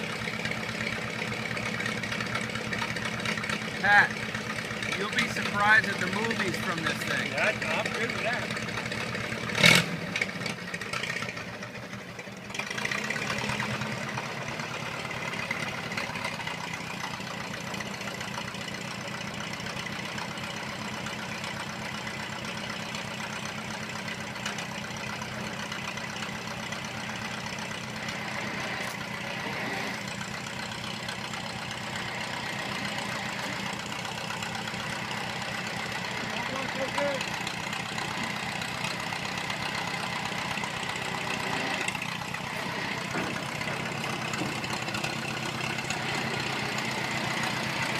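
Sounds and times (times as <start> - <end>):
old car engine running: 0.0 - 47.9.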